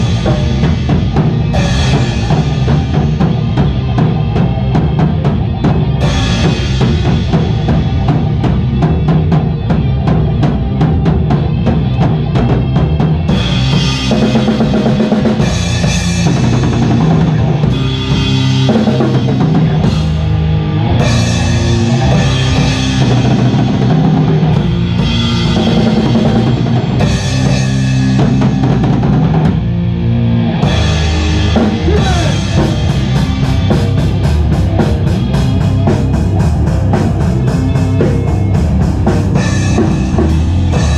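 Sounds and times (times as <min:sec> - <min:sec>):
drum kit bass drum and snare: 0:00.0 - 0:40.9
heavy chords with crashing cymbals: 0:00.0 - 0:40.9
low bass line: 0:00.0 - 0:40.9
rock band playing loud: 0:00.0 - 0:40.9.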